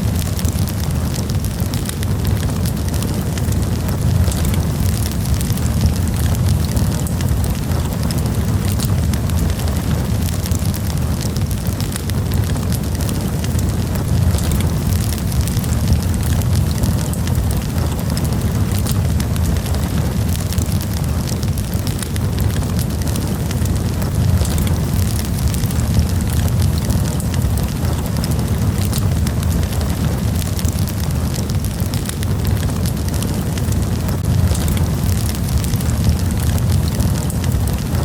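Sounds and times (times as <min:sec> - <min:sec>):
campfire crackling and popping: 0:00.0 - 0:38.0
low fire rumble: 0:00.0 - 0:38.0.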